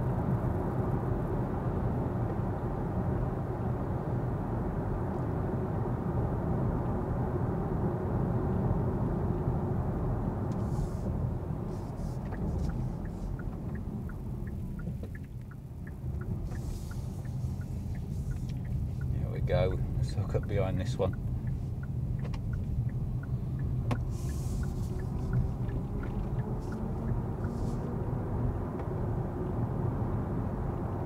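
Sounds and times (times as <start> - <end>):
road and tyre noise in car: 0.0 - 31.0.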